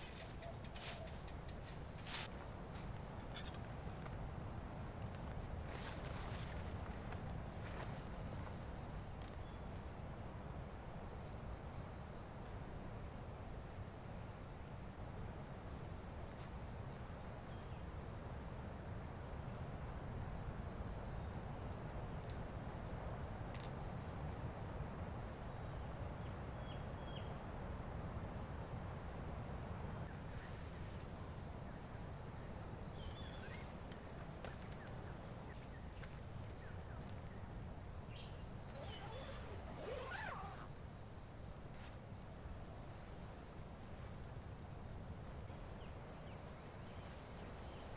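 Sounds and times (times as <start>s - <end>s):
insects trilling: 0.0s - 47.9s.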